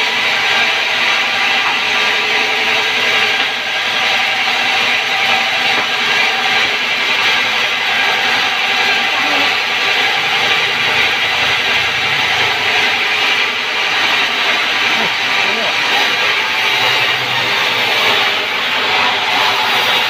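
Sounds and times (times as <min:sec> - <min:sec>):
band saw humming and whining: 0:00.0 - 0:20.0.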